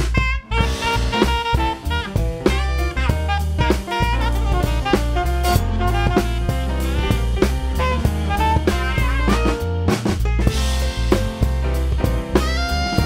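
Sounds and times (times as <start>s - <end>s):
alto saxophone melody: 0.0s - 9.9s, 12.3s - 13.0s
drum kit playing a beat: 0.0s - 13.0s
electric bass line: 0.0s - 13.0s.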